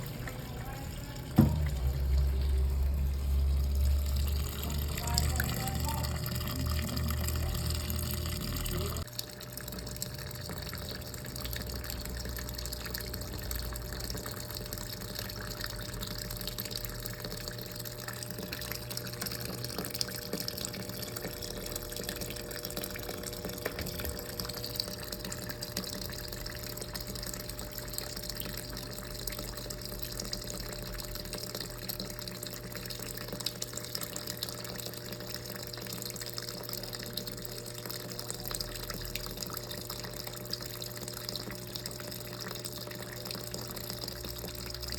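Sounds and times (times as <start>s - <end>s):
washing machine hum: 0.0s - 44.9s.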